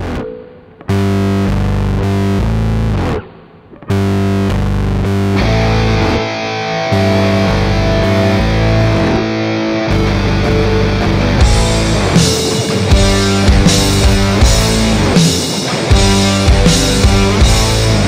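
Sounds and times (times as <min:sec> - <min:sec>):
distorted electric guitar rock music: 0:00.0 - 0:18.0.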